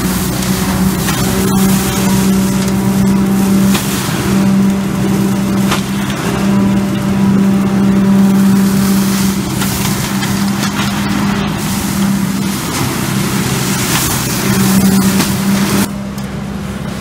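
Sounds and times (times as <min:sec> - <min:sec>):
air rushing through hose: 0:00.0 - 0:15.9
leaf vacuum engine droning: 0:00.0 - 0:17.0.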